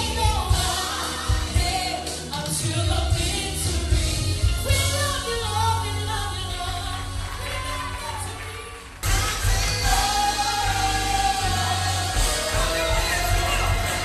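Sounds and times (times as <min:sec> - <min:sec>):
heavy bass: 0:00.0 - 0:08.4, 0:09.0 - 0:14.0
gospel singing: 0:00.0 - 0:14.0.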